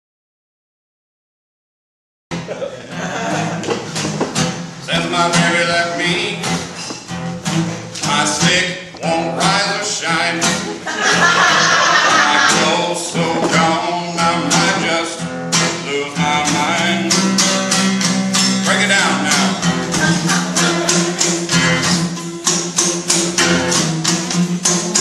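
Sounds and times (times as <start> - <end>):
guitar-led band music: 2.3 - 25.0.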